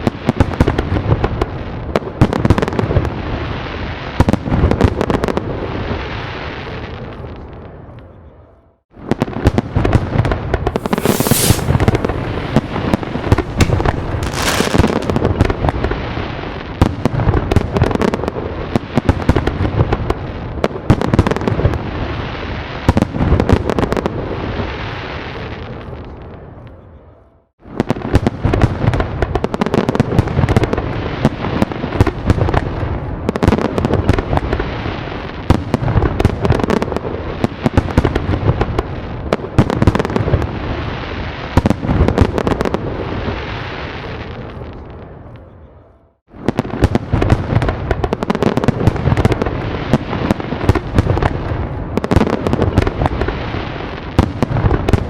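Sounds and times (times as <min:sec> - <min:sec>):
fireworks banging and crackling: 0:00.0 - 0:07.3, 0:09.0 - 0:26.2, 0:27.6 - 0:45.3, 0:46.3 - 0:55.0.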